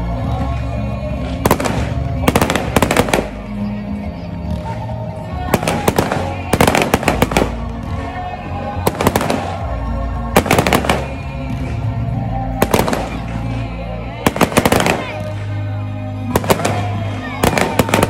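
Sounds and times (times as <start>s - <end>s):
music playing: 0.0s - 18.0s.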